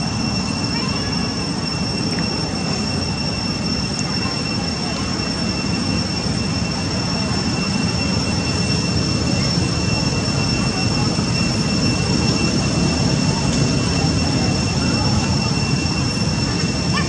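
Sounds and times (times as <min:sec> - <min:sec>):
thin high-pitched whine: 0:00.0 - 0:17.0.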